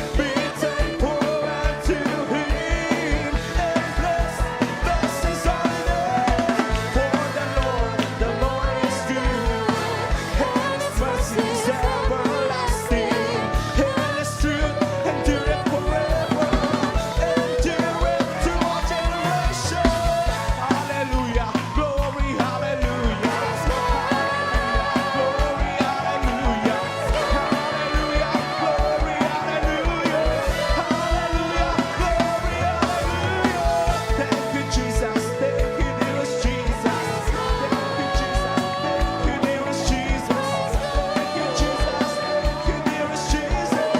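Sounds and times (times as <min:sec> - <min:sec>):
church choir singing: 0:00.0 - 0:21.0, 0:22.6 - 0:43.9
band accompaniment: 0:00.0 - 0:43.9
drum kit steady beat: 0:00.0 - 0:43.9.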